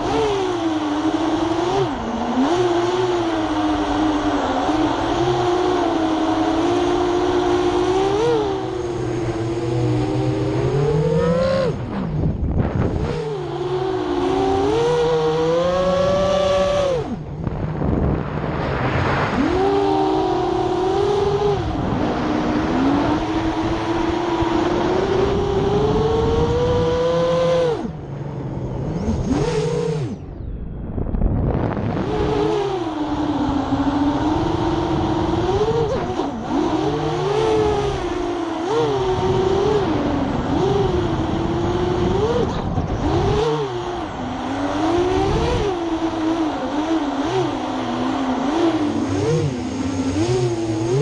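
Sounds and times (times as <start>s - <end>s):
quadcopter motors buzzing: 0.0s - 30.4s, 31.5s - 51.0s.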